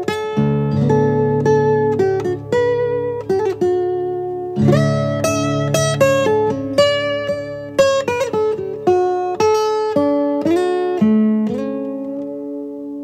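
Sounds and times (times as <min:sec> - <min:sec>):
calm acoustic guitar music: 0:00.0 - 0:13.0.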